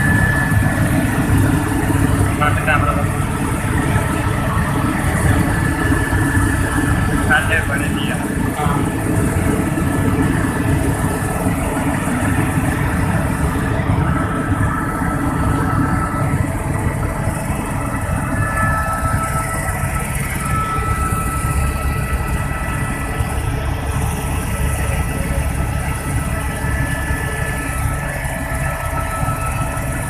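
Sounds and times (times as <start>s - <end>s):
faint whining tones: 0.0s - 30.0s
helicopter engine and rotor drone: 0.0s - 30.0s.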